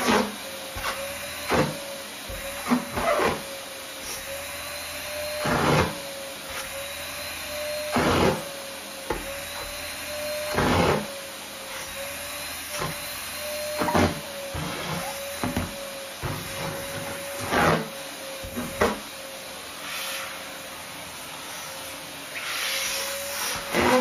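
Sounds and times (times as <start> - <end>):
vacuum cleaner motor whine: 0.0 - 24.0
vacuum nozzle swishing over fabric: 0.0 - 24.0.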